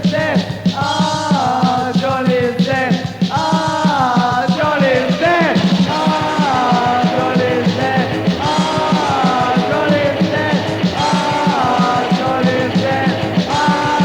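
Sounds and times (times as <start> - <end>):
hardcore punk song: 0.0 - 14.0.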